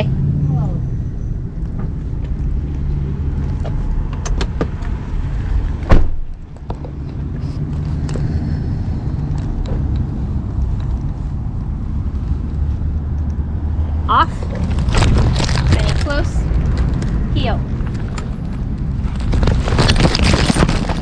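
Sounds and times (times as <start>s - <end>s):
car engine running rumble: 0.0s - 21.0s.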